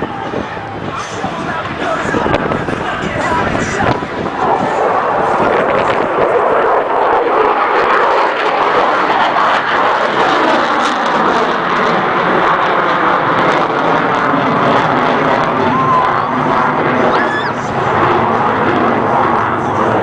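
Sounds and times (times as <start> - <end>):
loud jet engine noise: 0.0 - 20.0.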